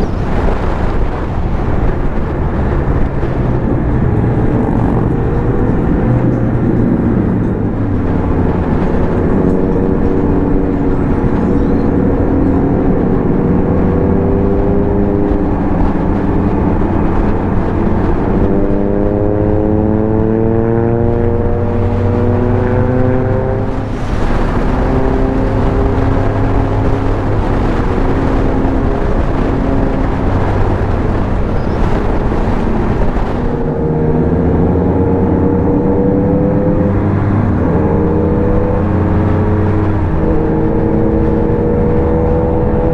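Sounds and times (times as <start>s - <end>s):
motorcycle engine running: 0.0s - 42.9s
wind on microphone: 0.0s - 42.9s.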